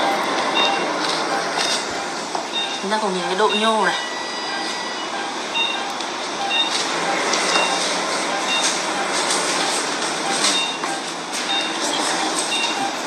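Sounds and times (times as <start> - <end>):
patient monitor beeping: 0.0 - 13.0
steady rushing background noise: 0.0 - 13.0.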